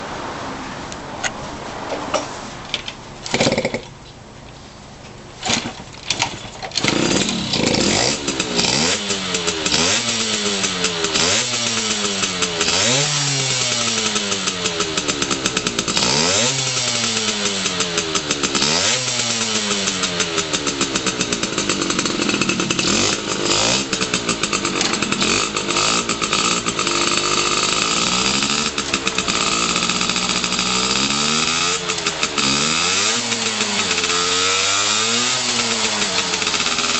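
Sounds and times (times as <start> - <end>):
two-stroke engine starting and revving: 3.2 - 3.9, 5.4 - 36.9.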